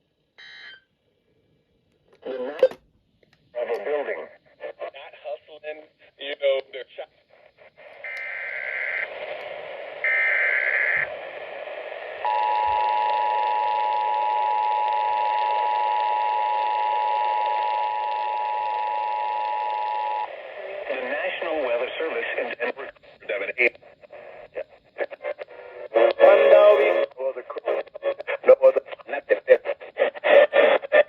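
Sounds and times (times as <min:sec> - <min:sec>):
radio static hiss: 0:03.6 - 0:14.2, 0:16.8 - 0:31.0.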